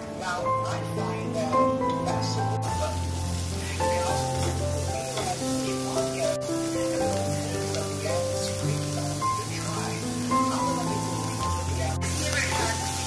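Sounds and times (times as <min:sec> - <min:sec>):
slow background music: 0:00.0 - 0:13.0
food deep-frying in oil: 0:00.1 - 0:13.0.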